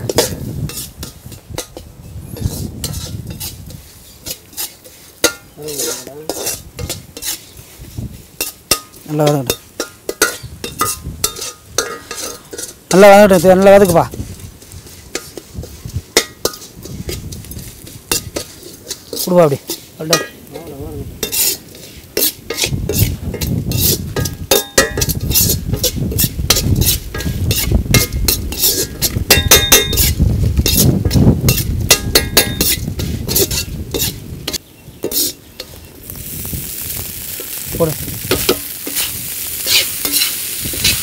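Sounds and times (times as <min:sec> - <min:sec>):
ladle scraping an iron pan: 0:00.0 - 0:35.8, 0:38.2 - 0:41.0
light sizzle: 0:00.0 - 0:41.0.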